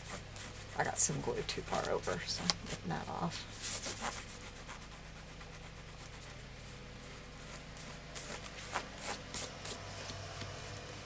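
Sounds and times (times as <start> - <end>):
scratchy rubs on paper: 0.0 - 10.9
steady low hum: 0.0 - 11.0.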